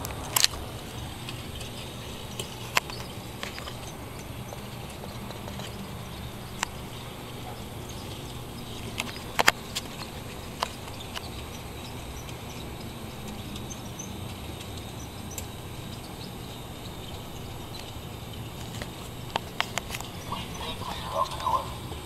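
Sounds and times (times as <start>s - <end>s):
sharp clicks: 0.0s - 21.6s
model trains humming: 0.0s - 22.0s.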